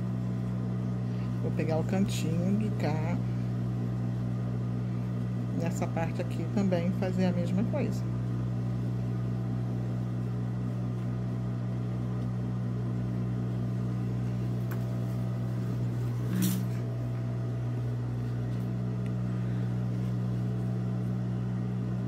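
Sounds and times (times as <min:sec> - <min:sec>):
low electric hum: 0:00.0 - 0:22.0.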